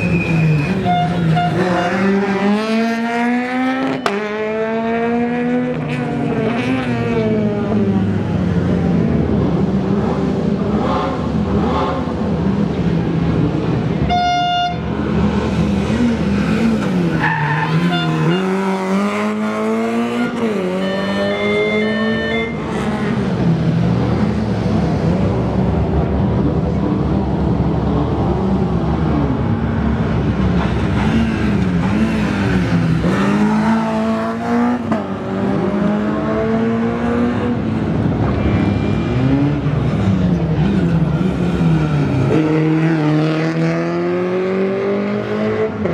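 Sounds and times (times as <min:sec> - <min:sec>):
rally car engines revving: 0:00.0 - 0:14.2, 0:14.8 - 0:45.9.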